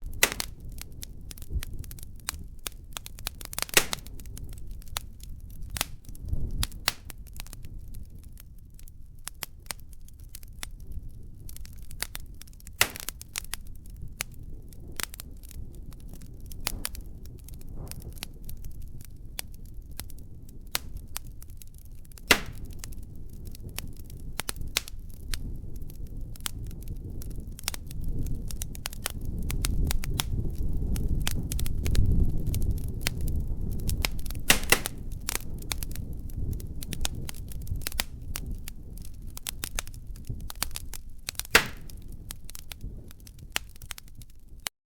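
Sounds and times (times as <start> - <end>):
fire crackling and popping: 0.0 - 44.7
low rumble of flames: 0.0 - 44.7.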